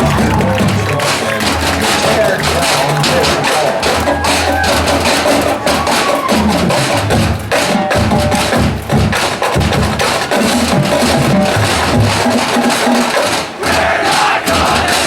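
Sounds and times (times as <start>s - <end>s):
drum and percussion strokes: 0.0s - 15.0s
marching band music: 0.0s - 15.0s.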